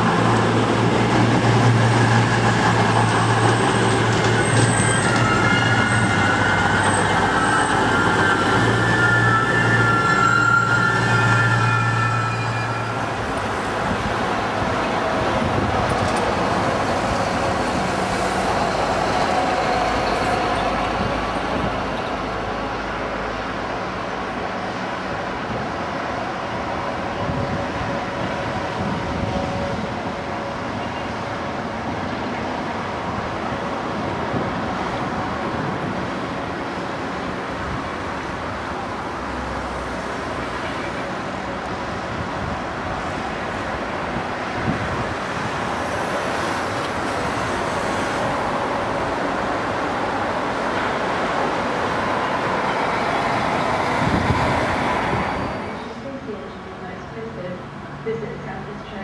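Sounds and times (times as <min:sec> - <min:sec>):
electric train running past: 0:00.0 - 0:59.0.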